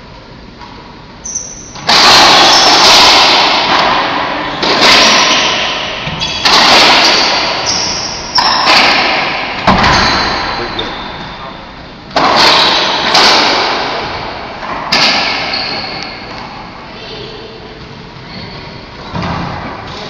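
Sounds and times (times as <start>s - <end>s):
ball striking racquets and walls: 0.6s - 16.8s, 17.8s - 20.0s.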